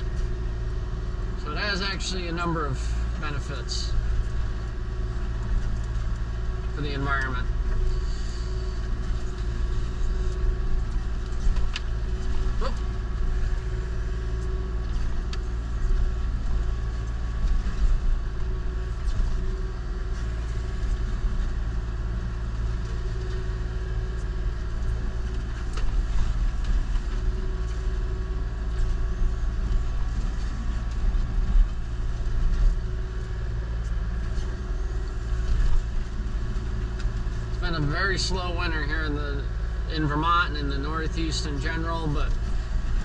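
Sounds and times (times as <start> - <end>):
diesel engine running: 0.0 - 43.0
pulsing whine: 0.0 - 43.0.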